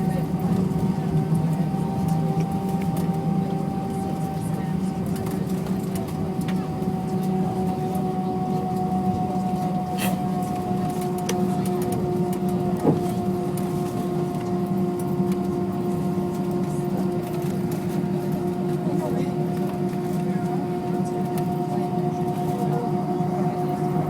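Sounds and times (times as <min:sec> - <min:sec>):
airliner cabin engine hum: 0:00.0 - 0:24.0.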